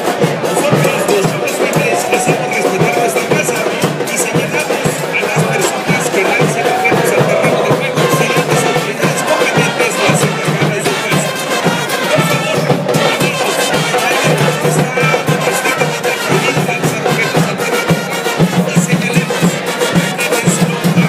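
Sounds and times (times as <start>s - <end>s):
crowd singing a chant: 0.0s - 21.0s
drums: 0.0s - 21.0s
wind instruments: 0.0s - 21.0s.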